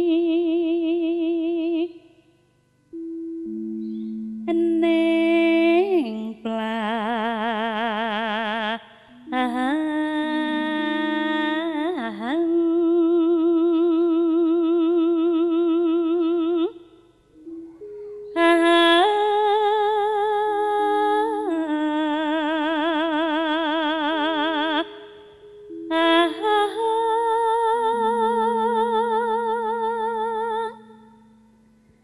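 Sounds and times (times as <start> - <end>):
woman singing with vibrato: 0.0 - 2.1, 3.5 - 17.2, 18.2 - 31.4
sustained keyboard notes: 2.9 - 32.0.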